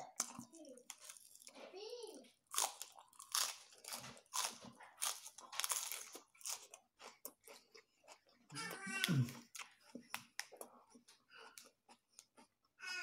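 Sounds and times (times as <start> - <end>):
lettuce crunching when chewed: 0.0 - 1.7, 2.4 - 12.9.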